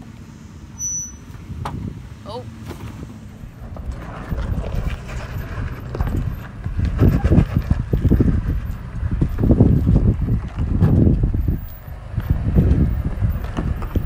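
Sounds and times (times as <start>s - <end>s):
vehicle crawling over rock: 0.0s - 14.0s
wind rumbling on microphone: 0.0s - 14.0s.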